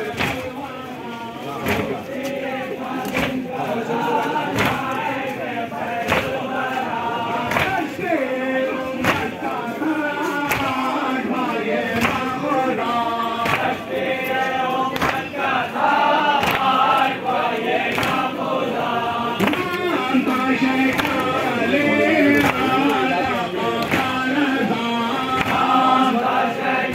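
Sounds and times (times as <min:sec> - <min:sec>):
men chanting a lament: 0:00.0 - 0:26.9
rhythmic chest slaps: 0:00.0 - 0:26.9.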